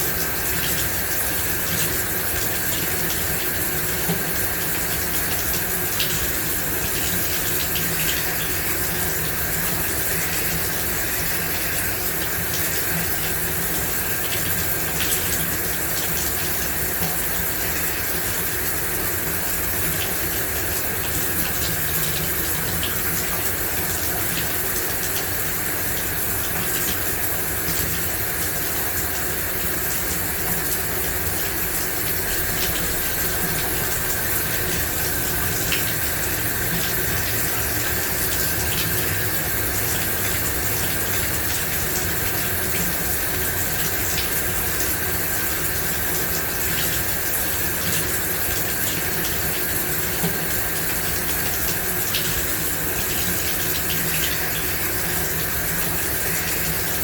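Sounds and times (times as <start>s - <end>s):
shower water spraying: 0.0s - 57.0s
water drips and patters: 0.0s - 57.0s.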